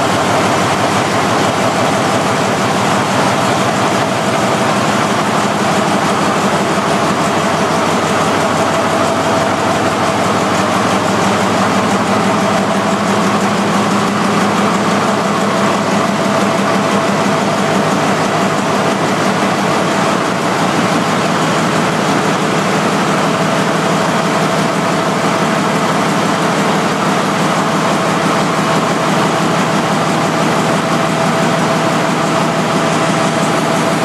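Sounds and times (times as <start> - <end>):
generator whine: 0.0 - 34.0.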